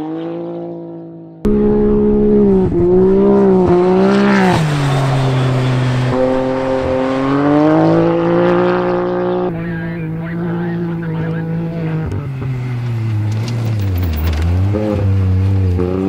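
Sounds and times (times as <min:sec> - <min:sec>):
engine revving hard: 0:01.5 - 0:16.0.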